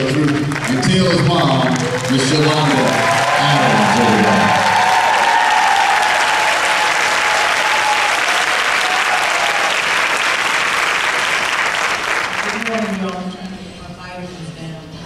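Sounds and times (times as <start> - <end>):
audience applause: 0.0 - 13.2.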